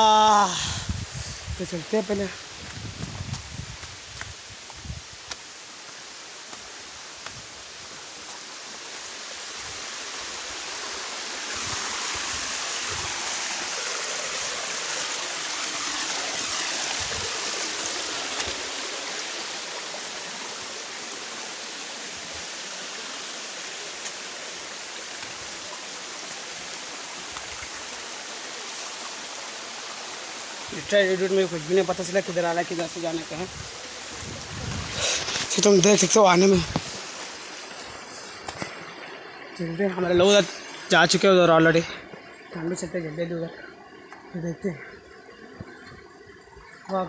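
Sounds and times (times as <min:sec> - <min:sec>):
rushing water: 0:00.0 - 0:47.0.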